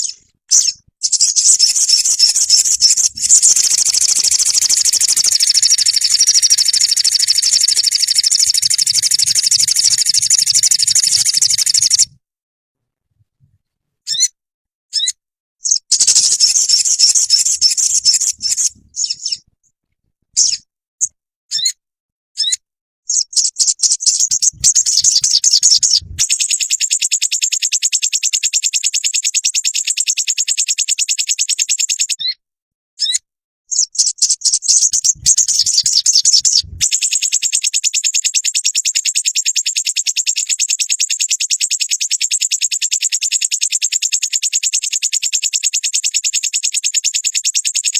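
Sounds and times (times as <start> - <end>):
bird chirps and rapid trills: 0.0 - 12.1, 15.0 - 19.4, 20.4 - 20.6, 22.4 - 32.4, 33.0 - 47.9.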